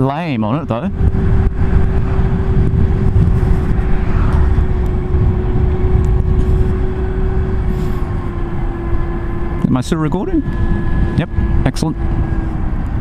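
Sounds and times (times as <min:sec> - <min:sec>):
wind rushing over microphone: 0:00.0 - 0:13.0
electric motor whine: 0:01.0 - 0:13.0.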